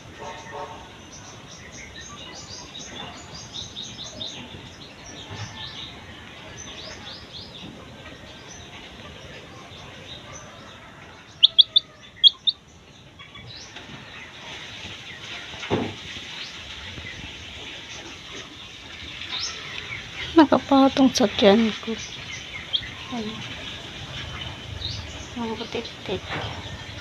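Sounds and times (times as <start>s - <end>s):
chick peeping: 0.1s - 27.0s.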